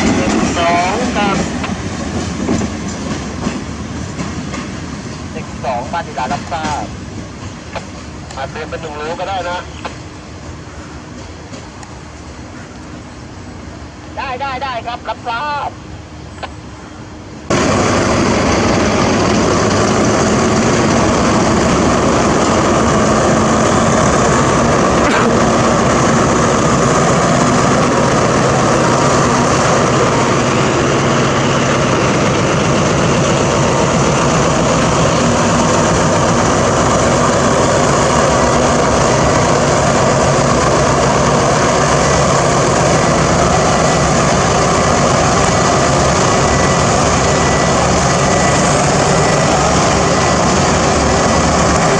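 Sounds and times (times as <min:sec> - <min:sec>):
diesel train engine running: 0:00.0 - 0:51.9.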